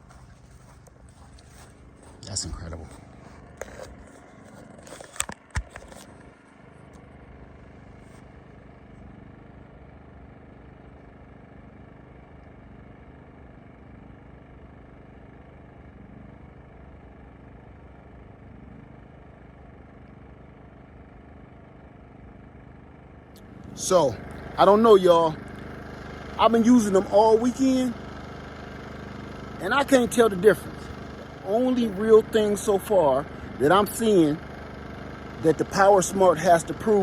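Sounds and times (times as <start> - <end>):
generator humming: 0.0 - 37.0.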